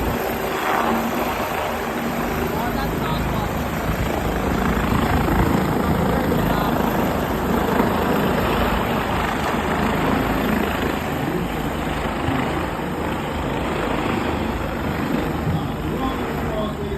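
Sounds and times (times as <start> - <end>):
helicopter flying over: 0.0 - 16.9.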